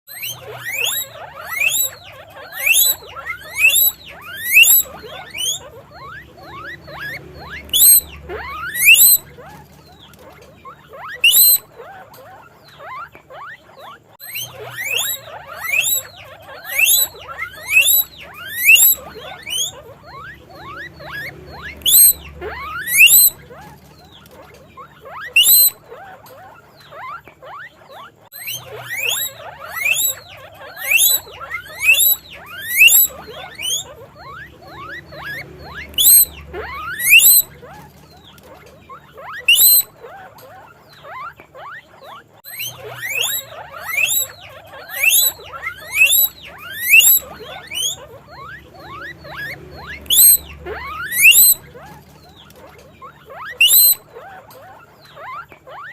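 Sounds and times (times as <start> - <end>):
guinea pig wheeking: 0.1 - 55.9.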